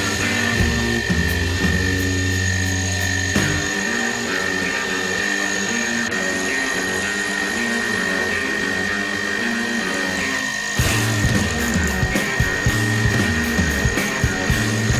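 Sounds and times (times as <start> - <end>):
cnc milling machine whine: 0.0 - 14.9.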